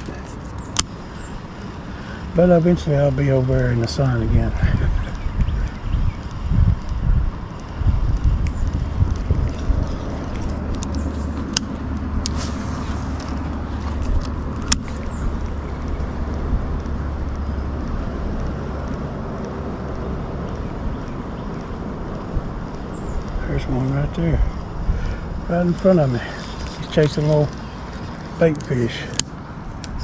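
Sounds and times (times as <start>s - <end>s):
sharp clicks: 0.0s - 1.8s, 4.8s - 30.0s
vehicle engine rumble: 0.0s - 30.0s.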